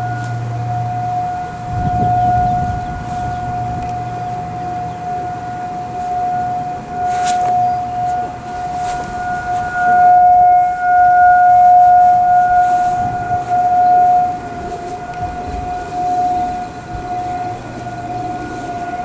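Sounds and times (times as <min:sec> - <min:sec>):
outdoor warning sirens steady tone: 0:00.0 - 0:19.0.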